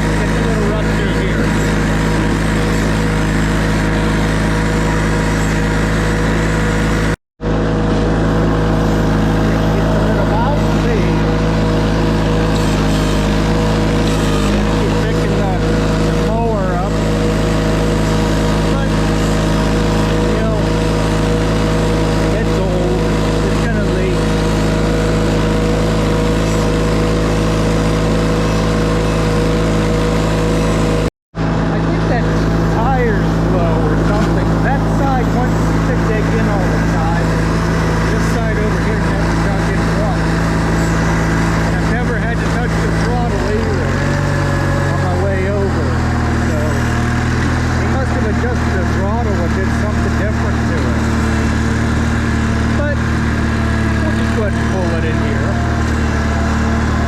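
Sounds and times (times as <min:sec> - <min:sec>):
steady higher hum: 0:00.0 - 0:57.0
tractor engine running: 0:00.0 - 0:57.0.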